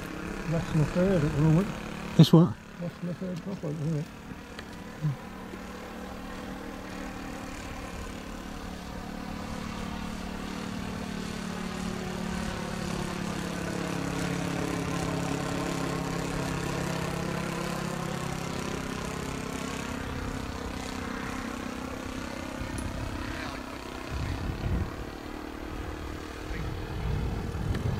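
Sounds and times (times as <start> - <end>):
model airplane engine droning: 0.0 - 27.9.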